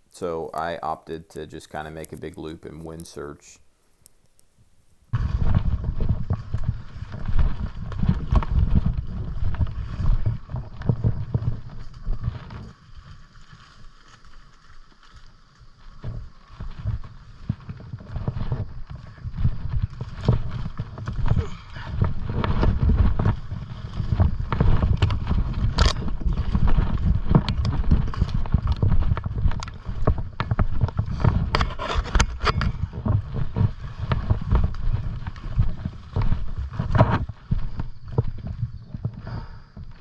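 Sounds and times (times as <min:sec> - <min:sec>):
footsteps crunching dry vegetation: 0:00.0 - 0:40.0
rustling vegetation: 0:00.0 - 0:40.0
low rumble on microphone: 0:05.1 - 0:14.6, 0:15.8 - 0:40.0.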